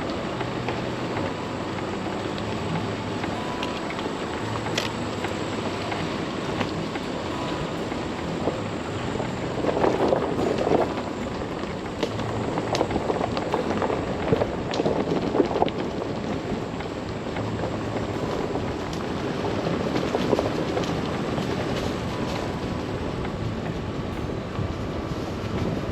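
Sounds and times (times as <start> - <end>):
low engine hum: 0.0 - 25.9
tyre noise on rough trail: 0.0 - 25.9.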